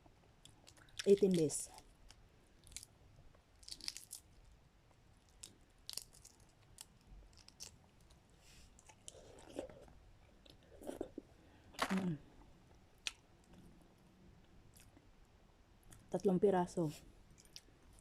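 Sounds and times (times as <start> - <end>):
chewing and soft crunching: 0.0 - 18.0.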